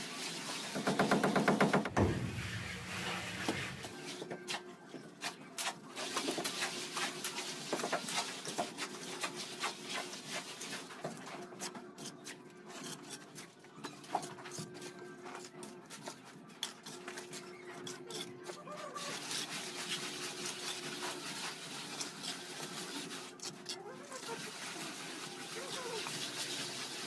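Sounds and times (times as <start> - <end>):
trowel scraping and tapping mortar: 0.8 - 24.3.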